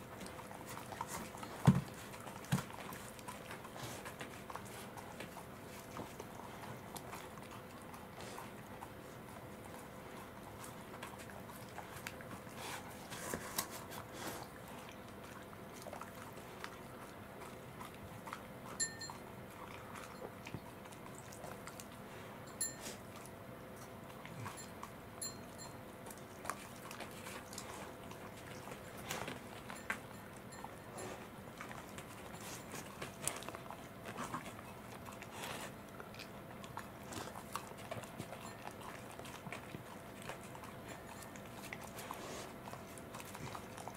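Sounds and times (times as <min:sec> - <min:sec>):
dog licking and chewing: 0:00.0 - 0:43.9.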